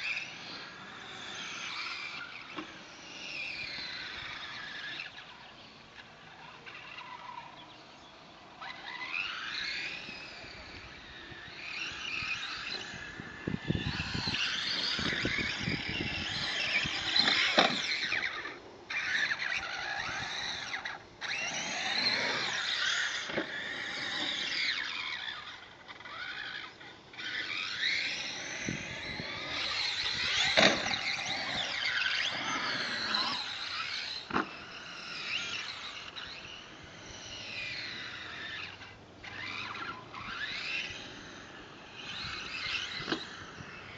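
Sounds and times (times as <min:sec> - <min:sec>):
electric motor whining: 0:00.0 - 0:43.9.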